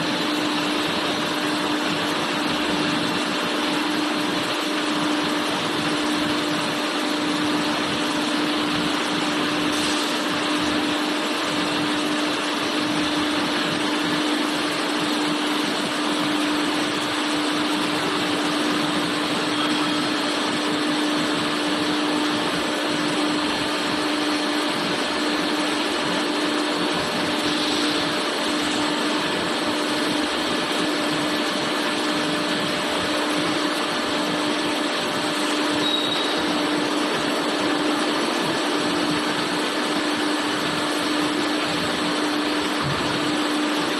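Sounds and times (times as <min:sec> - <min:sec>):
machine whirring: 0:00.0 - 0:43.9.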